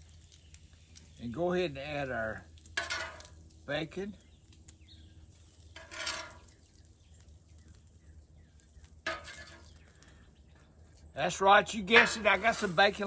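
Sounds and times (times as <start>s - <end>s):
faint background hum: 0.0s - 13.0s.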